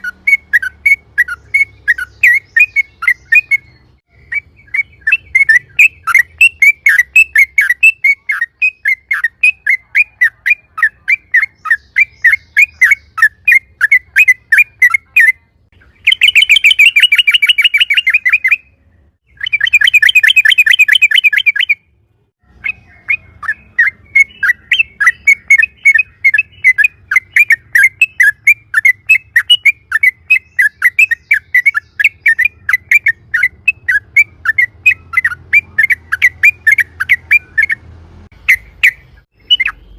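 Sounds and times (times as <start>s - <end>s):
bird chirping: 0.0s - 39.9s
bird rapid trill: 0.0s - 39.9s.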